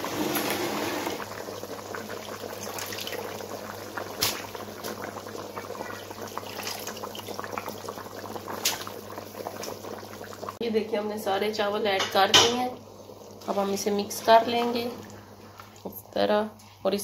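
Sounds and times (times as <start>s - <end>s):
stock boiling hard in a pot: 0.0s - 17.0s.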